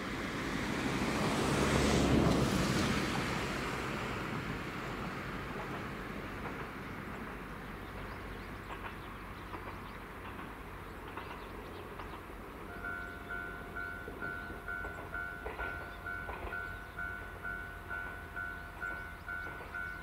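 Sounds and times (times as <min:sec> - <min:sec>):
distant diesel railcar rumbling: 0:00.0 - 0:20.0.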